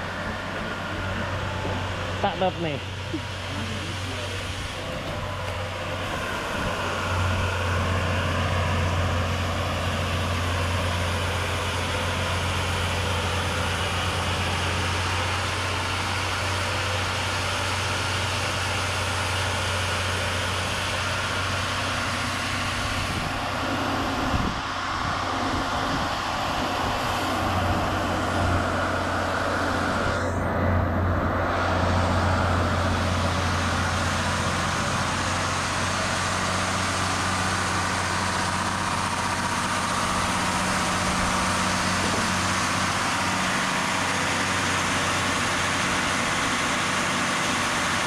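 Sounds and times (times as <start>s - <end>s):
engine running steadily: 0.0s - 48.0s.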